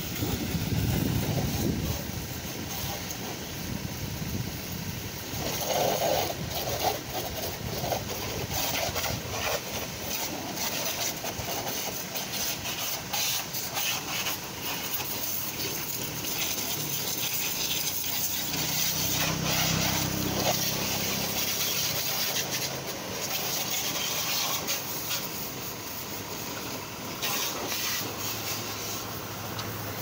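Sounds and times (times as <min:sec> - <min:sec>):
hose spraying water: 0:00.0 - 0:30.0.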